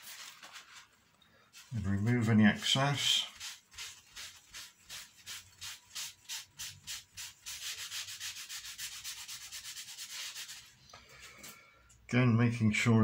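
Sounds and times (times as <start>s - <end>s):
tissue paper scrubbing wood: 0.0s - 10.8s.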